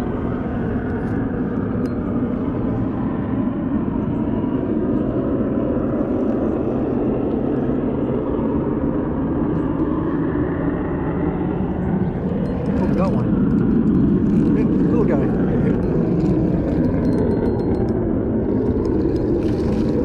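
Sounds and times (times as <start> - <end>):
outdoor rumble: 0.0 - 20.0.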